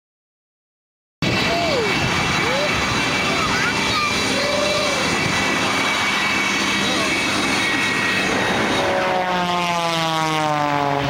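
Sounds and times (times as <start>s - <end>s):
propeller airplane engine passing: 1.2s - 11.0s.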